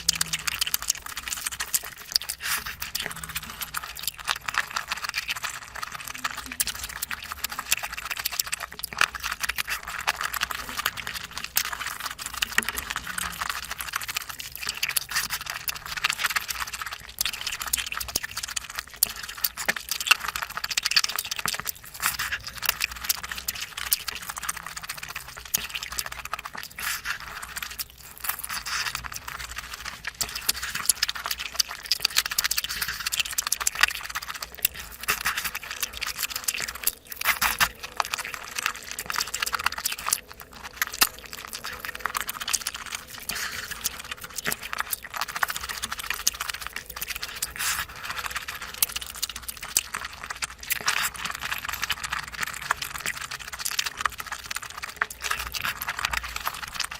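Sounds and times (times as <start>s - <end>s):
wet chewing and smacking: 0.0s - 56.9s.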